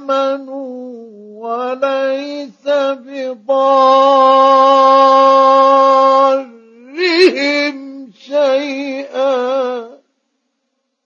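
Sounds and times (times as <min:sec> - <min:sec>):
man reciting melodically: 0:00.0 - 0:10.2.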